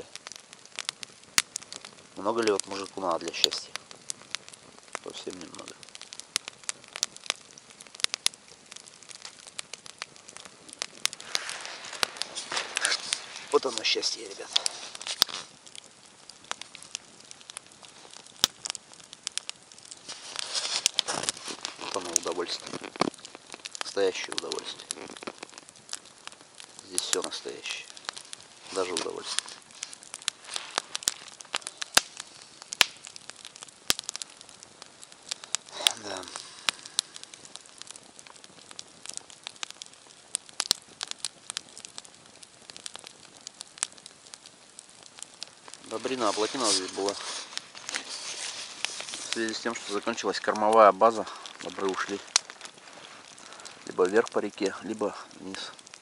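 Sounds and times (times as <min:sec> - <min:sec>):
campfire crackling: 0:00.0 - 0:56.0
fire popping: 0:00.0 - 0:56.0.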